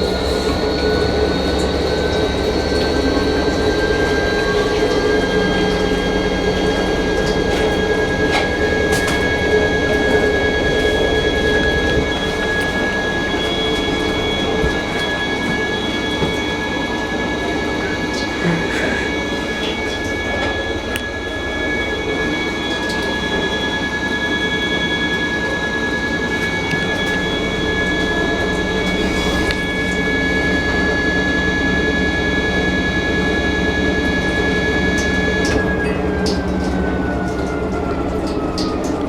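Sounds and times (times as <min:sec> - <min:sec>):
washing machine motor whine: 0:00.0 - 0:39.0.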